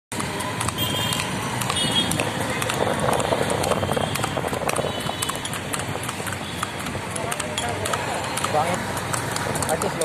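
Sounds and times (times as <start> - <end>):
horse hooves clattering on asphalt: 0.1 - 10.0
street noise: 0.1 - 10.0.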